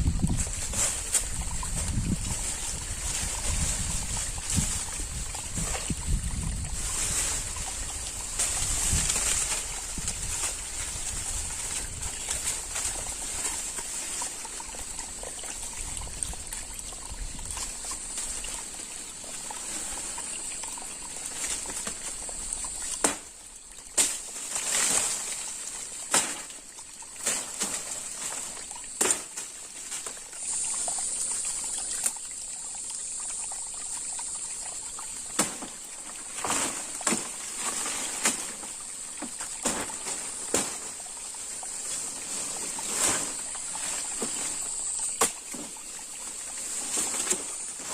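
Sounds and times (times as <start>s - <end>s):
water pouring and trickling: 0.0s - 47.9s.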